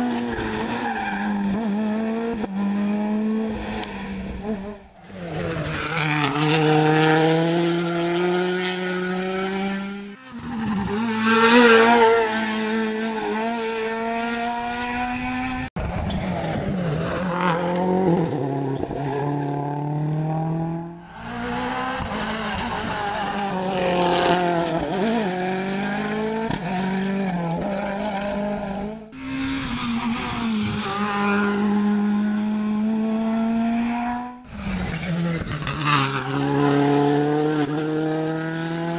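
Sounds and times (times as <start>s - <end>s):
rally car engines revving high: 0.0s - 38.9s.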